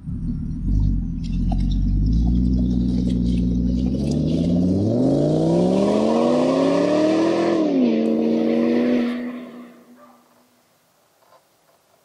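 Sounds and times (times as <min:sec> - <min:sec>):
car engine accelerating: 0:00.0 - 0:09.9.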